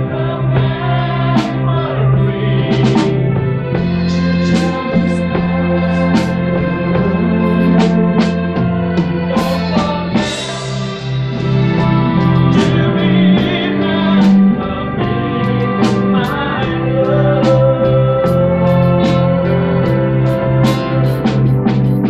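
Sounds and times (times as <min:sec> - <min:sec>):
bass guitar: 0:00.0 - 0:22.0
drum beats: 0:00.0 - 0:22.0
electric guitars: 0:00.0 - 0:22.0.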